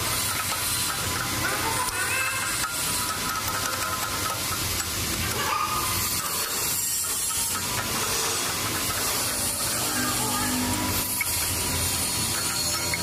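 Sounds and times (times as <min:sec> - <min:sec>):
metal lathe cutting: 0:00.0 - 0:13.0.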